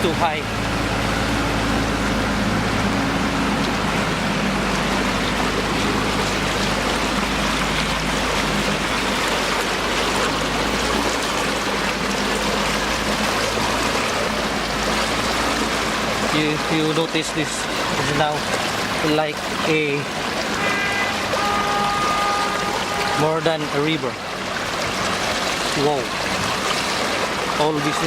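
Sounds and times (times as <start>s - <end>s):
floodwater rushing down street: 0.0s - 28.0s.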